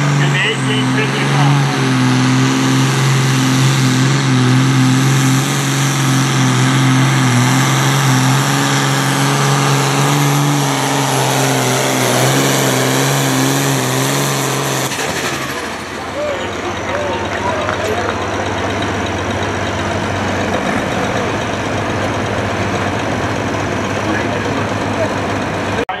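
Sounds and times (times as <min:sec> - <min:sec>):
diesel engine under heavy load: 0:00.0 - 0:26.0.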